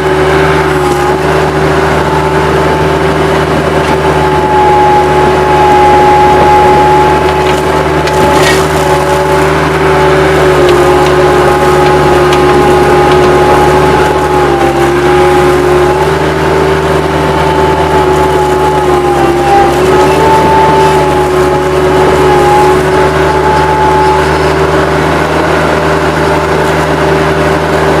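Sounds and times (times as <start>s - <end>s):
diesel engine running hard: 0.0s - 28.0s
high hydraulic whine: 0.0s - 28.0s.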